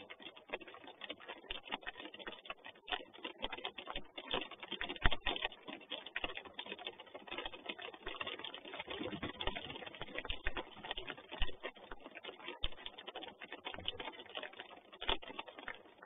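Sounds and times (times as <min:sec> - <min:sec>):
rain pattering on wooden box: 0:00.0 - 0:16.0.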